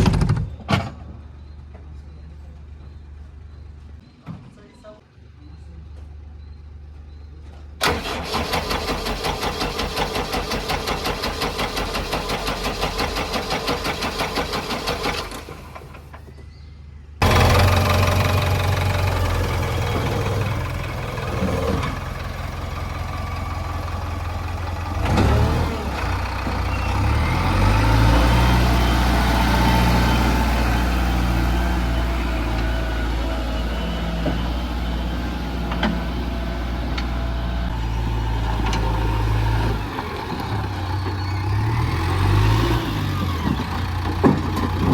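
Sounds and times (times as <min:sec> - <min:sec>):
diesel engine running: 0:07.8 - 0:16.3, 0:17.2 - 0:44.9
starter cranking diesel engine: 0:07.8 - 0:16.3, 0:17.2 - 0:44.9.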